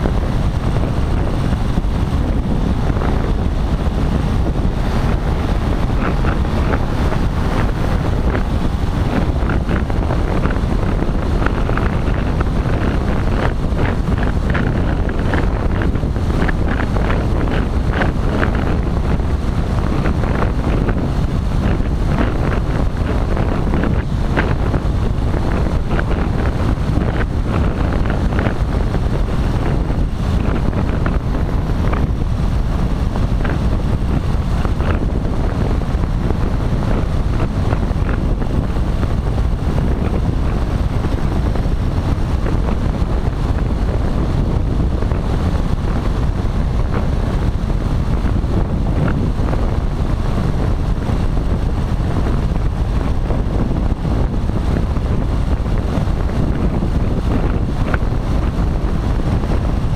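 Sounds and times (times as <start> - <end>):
paramotor engine drone: 0.0 - 59.9
wind buffeting microphone: 0.0 - 59.9.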